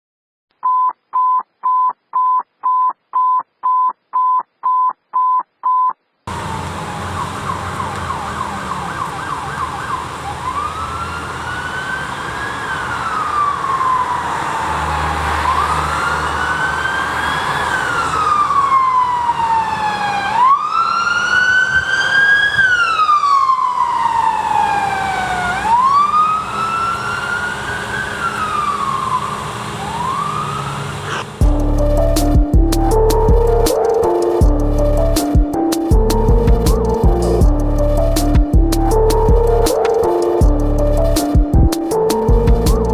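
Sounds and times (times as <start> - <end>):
fire truck siren wailing: 6.3 - 42.9
truck engine rumble: 6.3 - 42.9.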